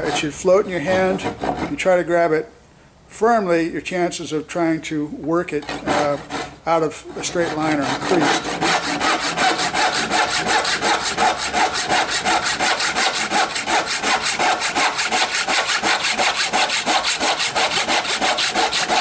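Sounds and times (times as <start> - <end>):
hand saw cutting wood: 0.0 - 2.0, 5.5 - 19.0.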